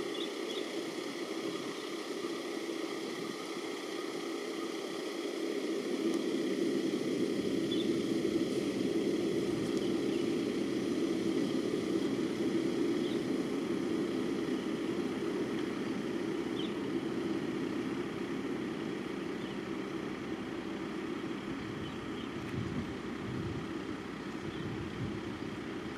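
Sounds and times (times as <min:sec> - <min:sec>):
low engine rumble: 0:00.0 - 0:25.9.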